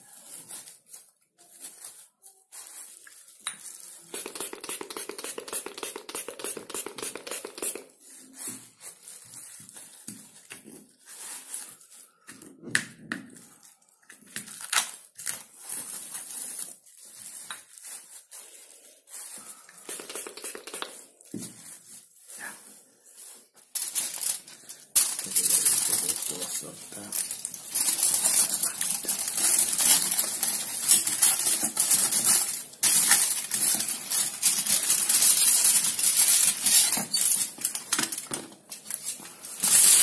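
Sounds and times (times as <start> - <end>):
plastic sheeting crinkling: 0.0 - 12.3, 13.4 - 40.0.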